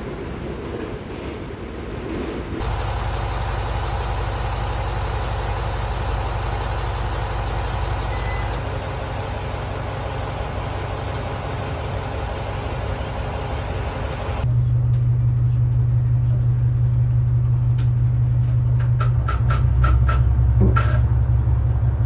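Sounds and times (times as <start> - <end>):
vehicle engine idling: 2.6 - 22.0.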